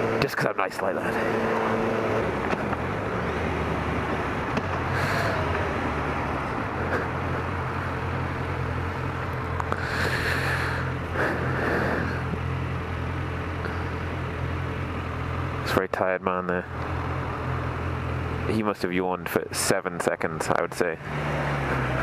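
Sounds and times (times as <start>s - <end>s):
motorcycle engine running: 0.0s - 18.8s.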